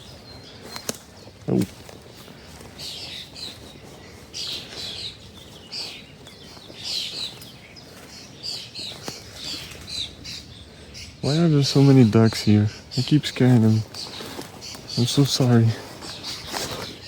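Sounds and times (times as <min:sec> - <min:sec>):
birds calling falling notes: 0:00.0 - 0:17.0.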